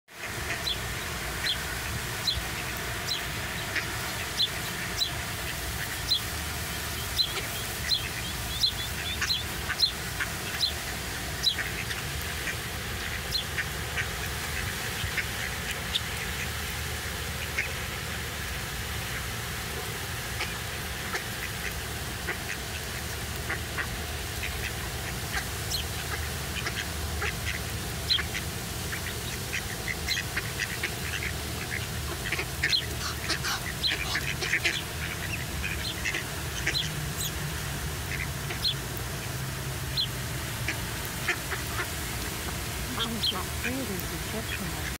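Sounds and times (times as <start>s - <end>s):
ducks quacking: 0.1s - 45.0s
songbirds calling: 0.1s - 45.0s
steady background hiss: 0.2s - 45.0s.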